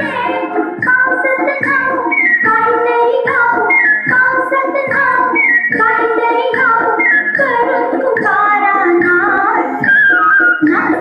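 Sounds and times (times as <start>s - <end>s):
high voice singing: 0.0s - 11.0s
instrumental backing: 0.0s - 11.0s.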